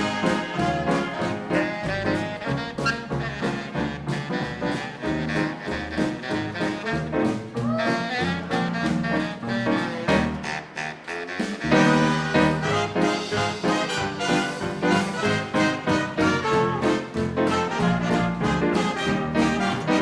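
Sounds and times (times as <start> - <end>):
big band playing swing: 0.0 - 20.0.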